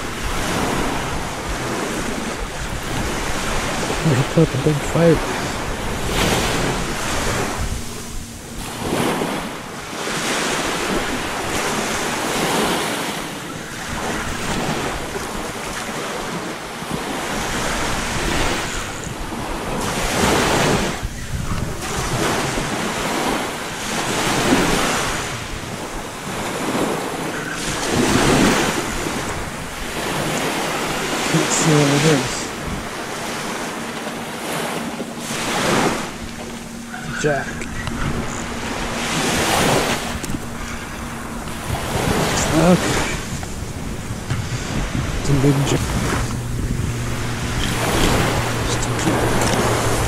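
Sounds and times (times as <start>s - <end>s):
small waves breaking on beach: 0.0s - 50.0s
wind buffeting microphone: 0.0s - 50.0s.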